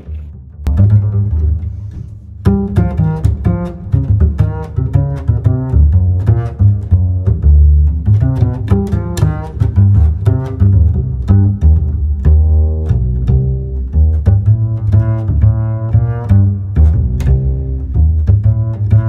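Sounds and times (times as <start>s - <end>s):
background music with bass line: 0.0s - 19.0s.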